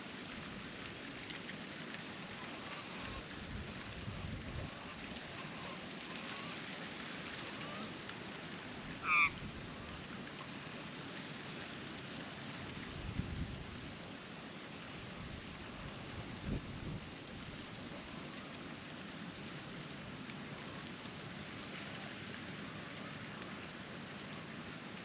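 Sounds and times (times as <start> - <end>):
steady wind: 0.3 - 10.3, 12.3 - 25.0.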